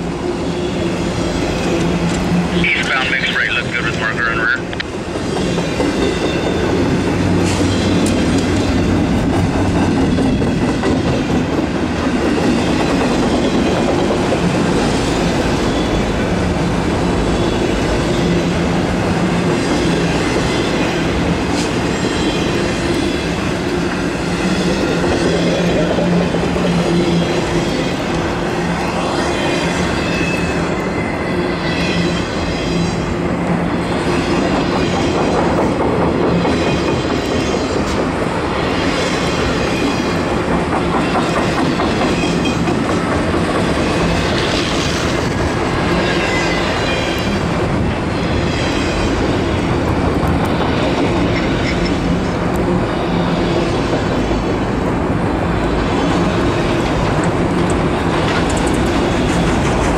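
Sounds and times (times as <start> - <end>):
freight train rumbling past: 0.0 - 59.9
train wheels clickety-clack: 4.7 - 28.9, 31.8 - 55.0, 55.8 - 59.9.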